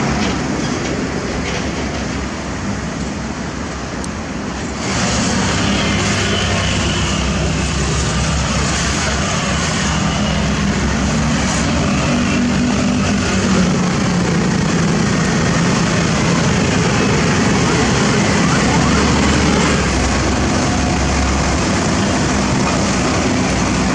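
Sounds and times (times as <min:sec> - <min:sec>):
diesel engines droning: 0:00.0 - 0:23.9.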